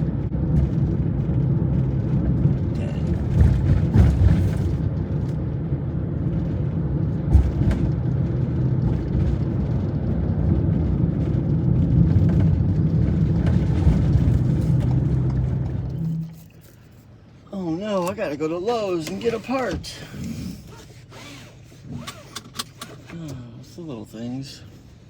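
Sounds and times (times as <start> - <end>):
road noise: 0.0 - 25.0
vehicle engine drone: 0.0 - 25.0.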